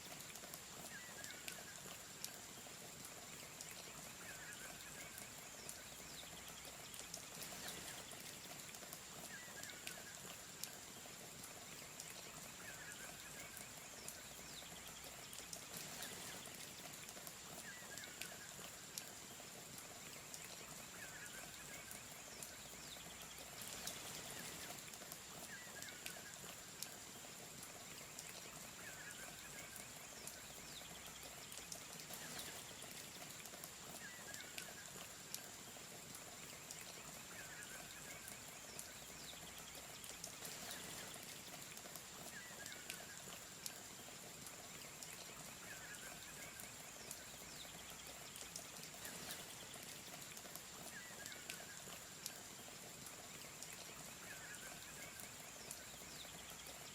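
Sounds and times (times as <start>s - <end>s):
faint clicks: 0.0s - 56.9s.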